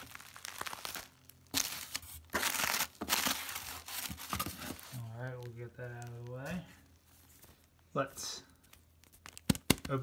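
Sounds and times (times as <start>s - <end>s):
bubble wrap crinkling: 0.0s - 10.0s.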